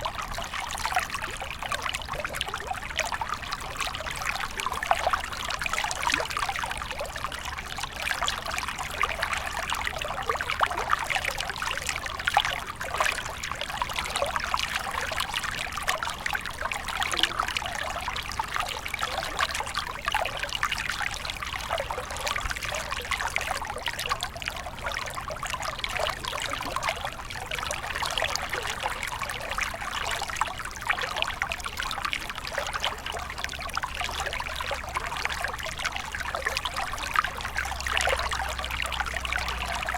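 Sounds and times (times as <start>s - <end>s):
stream water trickling over rocks: 0.0s - 39.9s.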